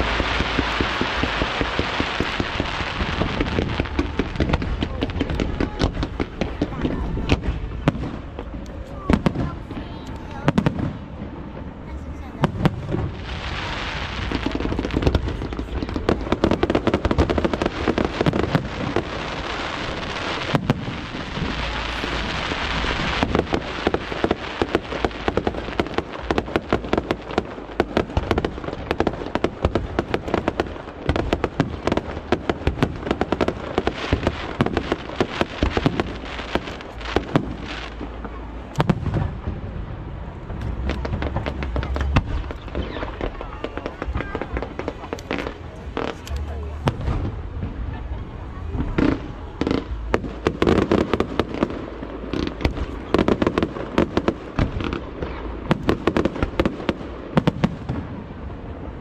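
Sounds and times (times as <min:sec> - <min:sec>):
fireworks bangs: 0:00.0 - 0:59.0
fireworks crackling hiss: 0:00.0 - 0:59.0.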